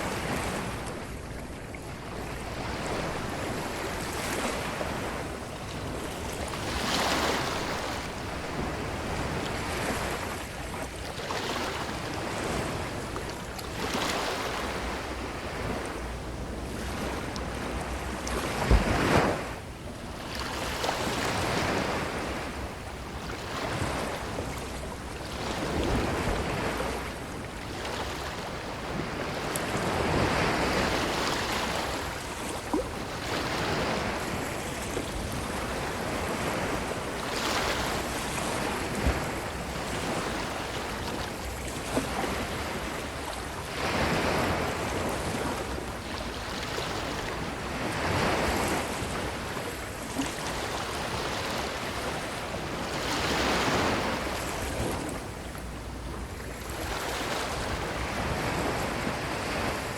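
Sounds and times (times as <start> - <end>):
ocean surf breaking on beach: 0.0 - 1.3, 1.9 - 59.9.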